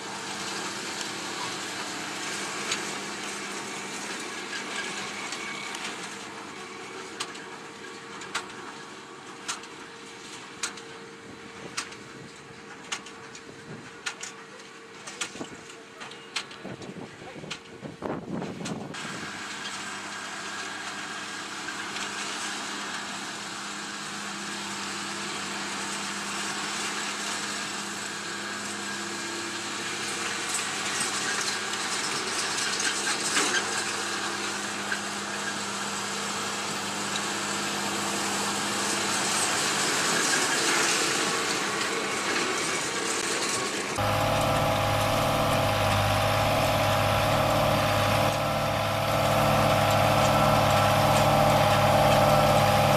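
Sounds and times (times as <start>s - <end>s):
diesel tractor engine with baler: 0.0s - 52.9s
tractor and baler running: 0.0s - 52.9s.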